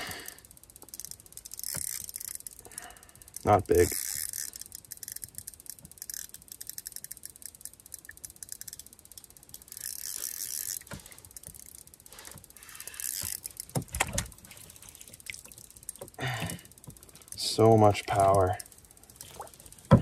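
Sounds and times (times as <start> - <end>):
fishing reel gears clicking: 0.0 - 20.0
reel buzzing: 0.0 - 20.0.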